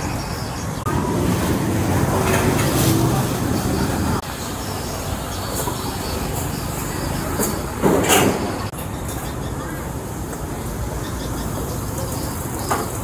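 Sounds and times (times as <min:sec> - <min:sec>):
street bustle: 0:00.0 - 0:13.0
street traffic: 0:00.0 - 0:13.0.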